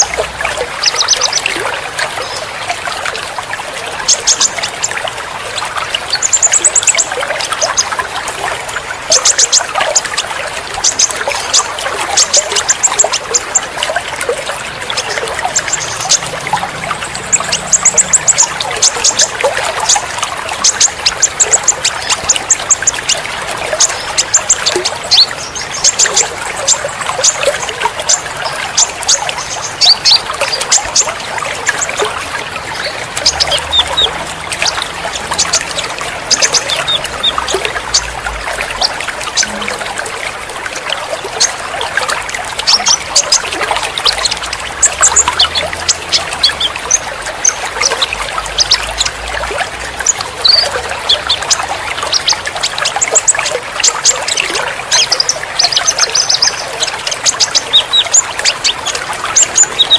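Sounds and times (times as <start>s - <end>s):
trickling water: 0.0s - 59.9s.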